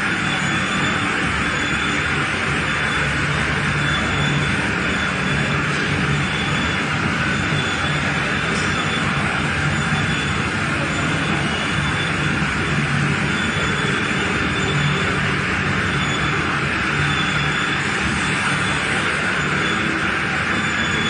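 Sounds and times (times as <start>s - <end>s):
low machine hum: 0.0s - 21.0s
machine mechanical din: 0.0s - 21.0s.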